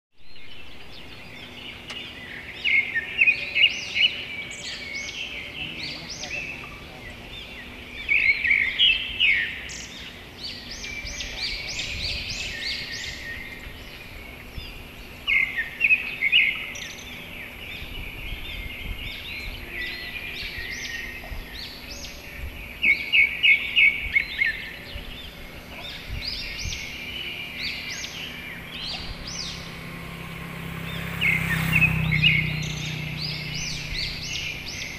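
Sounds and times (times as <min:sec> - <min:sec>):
outdoor background noise: 0:00.1 - 0:34.9
birds chirping: 0:00.2 - 0:34.9.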